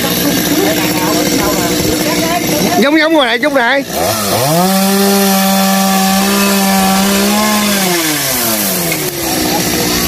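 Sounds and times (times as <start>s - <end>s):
chainsaw cutting a branch: 0.0s - 10.0s.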